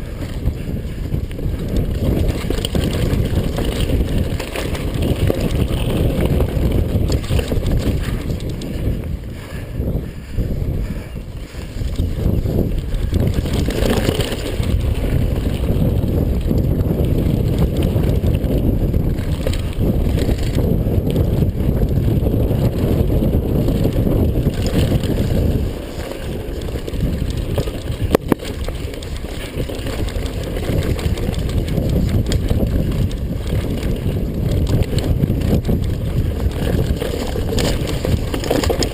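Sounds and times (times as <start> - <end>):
mountain bike trail noise: 0.0 - 38.9
wind buffeting: 0.0 - 38.9.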